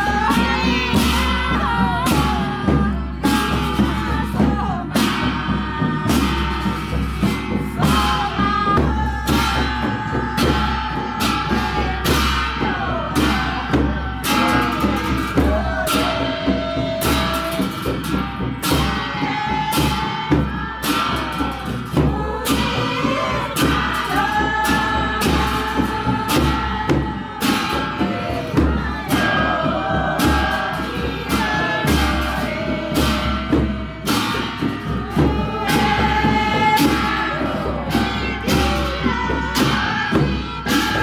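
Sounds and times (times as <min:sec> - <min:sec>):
person singing: 0:00.0 - 0:41.0
steady drum beat: 0:00.0 - 0:41.0.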